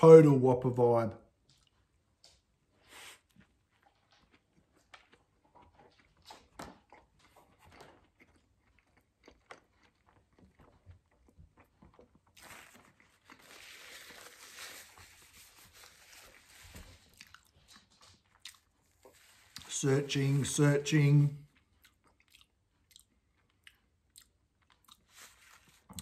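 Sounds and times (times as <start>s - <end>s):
man chewing crunchy food: 3.3s - 19.8s, 21.5s - 26.0s.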